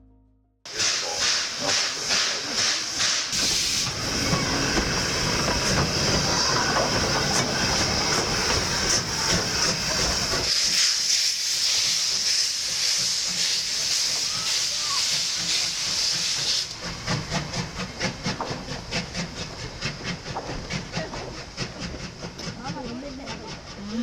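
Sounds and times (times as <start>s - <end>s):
loud hiss of steam: 0.7s - 24.0s
steam locomotive rhythmic beat: 0.7s - 24.0s.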